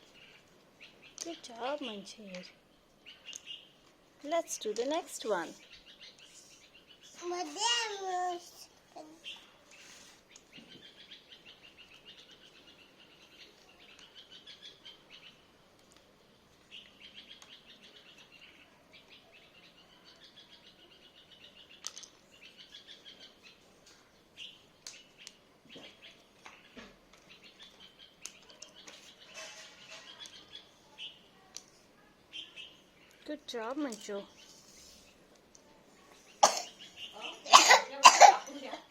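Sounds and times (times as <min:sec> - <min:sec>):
small birds twittering: 0:00.0 - 0:38.9.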